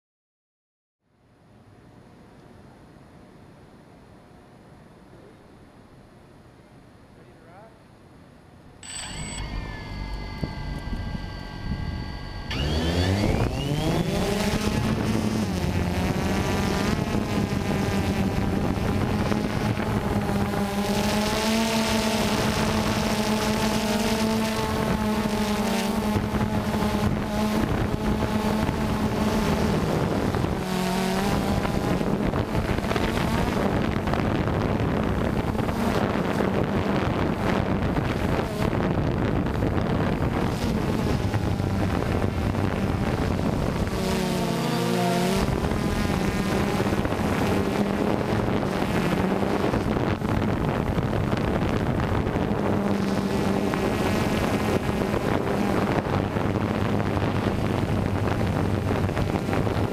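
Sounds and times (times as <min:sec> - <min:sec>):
quadcopter motors buzzing: 0:08.8 - 0:59.9.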